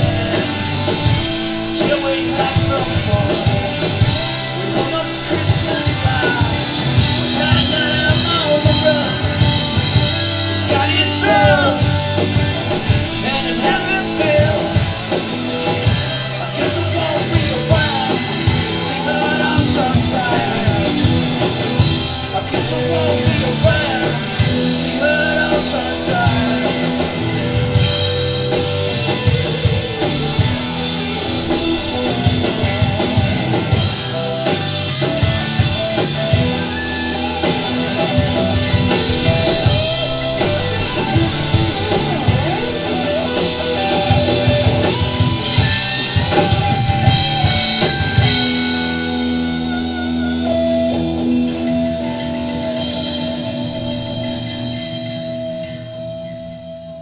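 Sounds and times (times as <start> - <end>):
drum kit: 0.0 - 57.0
electric guitars: 0.0 - 57.0
wavering lead guitar line: 0.0 - 57.0.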